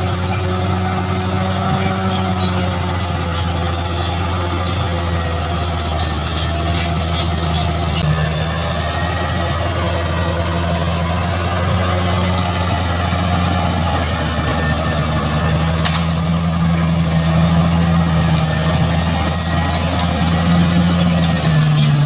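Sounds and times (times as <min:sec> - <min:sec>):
diesel engine running: 0:00.0 - 0:22.0
steel tracks squealing: 0:00.0 - 0:22.0.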